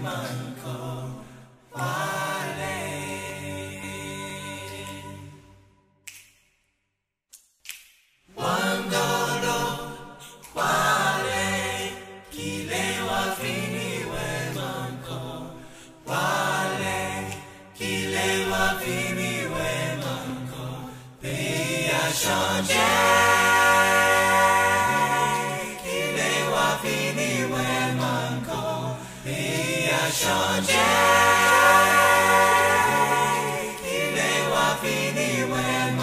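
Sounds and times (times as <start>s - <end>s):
a cappella choir singing: 0.0s - 5.9s, 8.3s - 36.0s.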